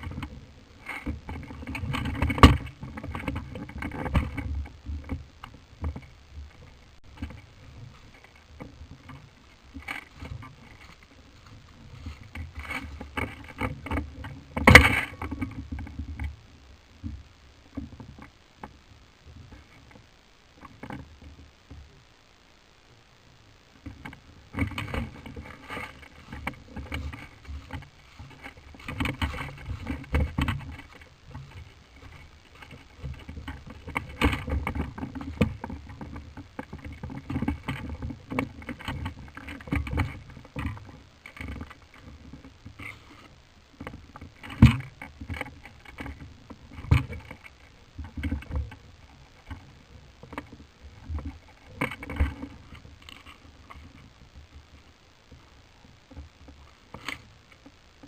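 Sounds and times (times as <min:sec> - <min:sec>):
rustling and knocking close to microphone: 0:00.0 - 0:16.4, 0:23.8 - 0:58.0.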